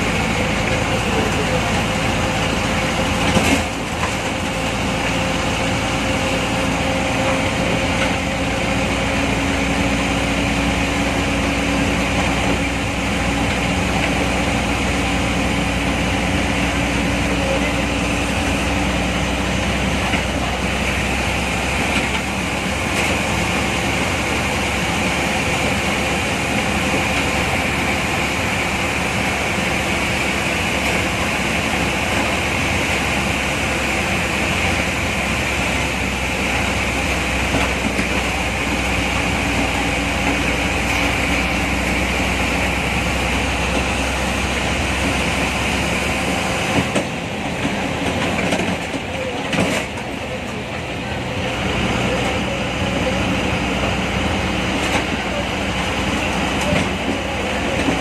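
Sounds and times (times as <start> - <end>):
bus engine running: 0.0 - 58.0
tyre and road noise: 0.0 - 58.0.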